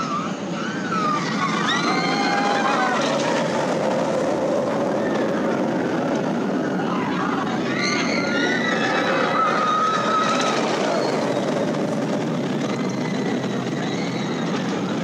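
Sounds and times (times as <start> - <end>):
riders screaming: 0.0 - 15.0
roller coaster train roaring on track: 0.0 - 15.0.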